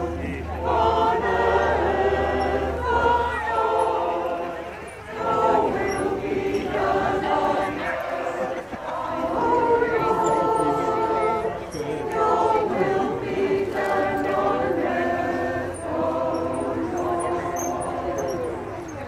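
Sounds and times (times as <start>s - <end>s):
choir singing long notes: 0.0s - 19.0s.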